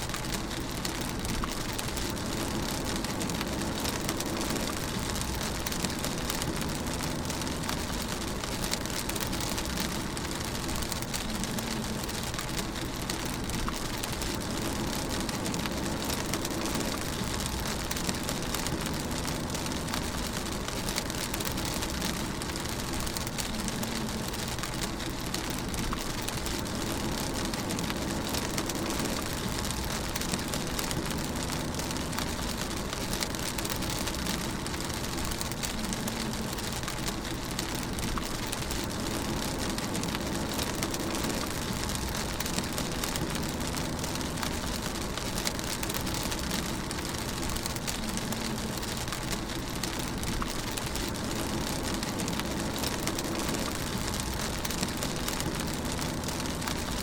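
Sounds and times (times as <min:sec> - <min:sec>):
car hum and tyres on wet road: 0:00.0 - 0:57.0
rain on car roof: 0:00.0 - 0:57.0.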